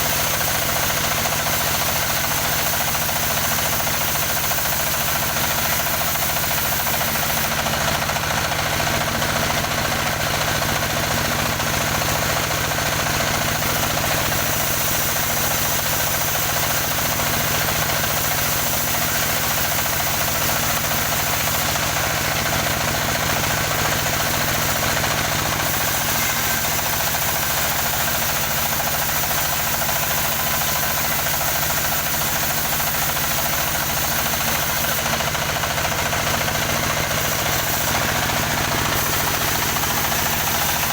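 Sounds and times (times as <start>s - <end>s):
wood saw engine running: 0.0s - 40.9s.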